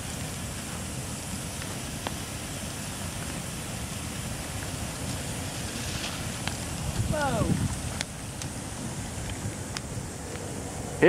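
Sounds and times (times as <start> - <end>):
bonfire burning rush: 0.0 - 11.0
sharp fire crackles: 0.0 - 11.0.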